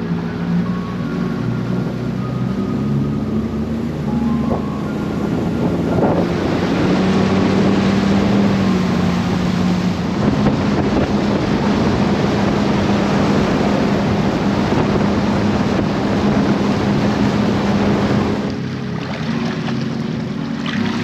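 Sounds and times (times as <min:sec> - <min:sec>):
motorboat engine hum: 0:00.0 - 0:21.0
rush of wind and water: 0:00.0 - 0:21.0.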